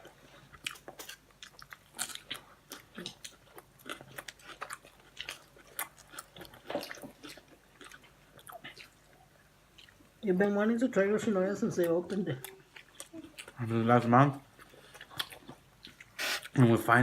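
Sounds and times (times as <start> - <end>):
chewing and biting food: 0.0 - 10.2, 12.1 - 16.7.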